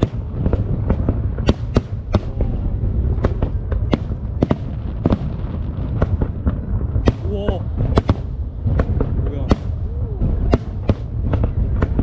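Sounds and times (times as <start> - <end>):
fireworks bangs and cracks: 0.0 - 12.0
low rumble of distant explosions: 0.0 - 12.0.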